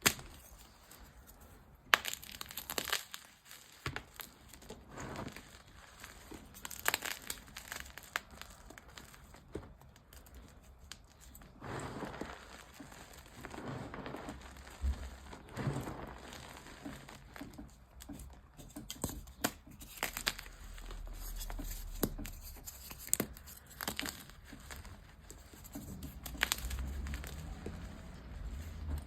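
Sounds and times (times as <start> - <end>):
chalk being crushed: 0.0 - 29.0.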